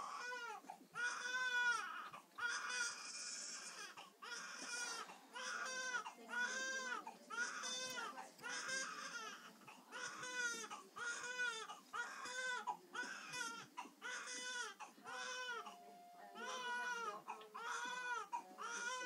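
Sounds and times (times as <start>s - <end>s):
newborn baby crying: 0.0s - 19.0s.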